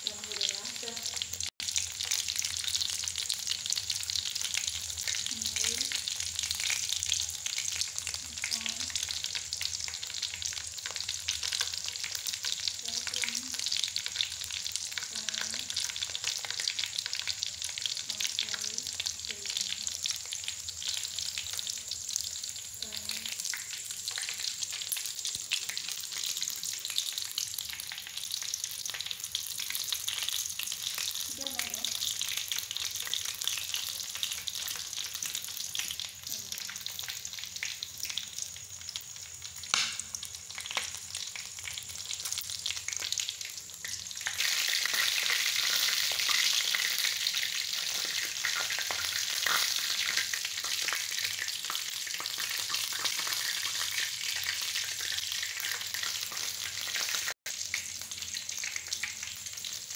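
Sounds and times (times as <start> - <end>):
food sizzling in oil: 0.0 - 59.9.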